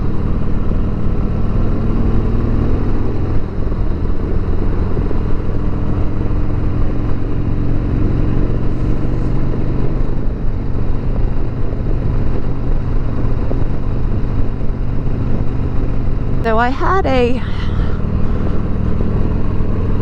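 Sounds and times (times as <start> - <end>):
motorcycle engine running: 0.0 - 17.0
road noise: 0.0 - 20.0.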